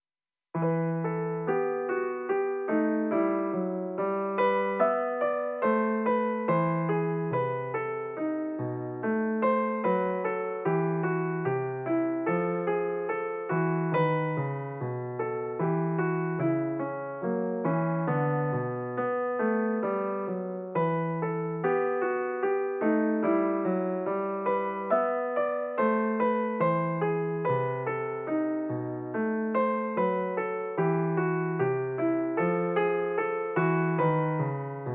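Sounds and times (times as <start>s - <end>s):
piano music: 0.6s - 34.9s.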